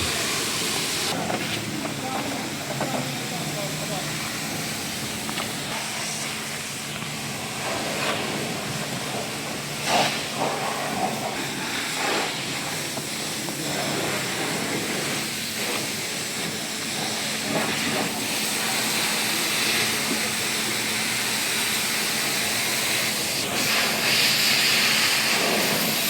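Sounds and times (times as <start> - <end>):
pressure washer spray hissing: 0.0 - 26.0.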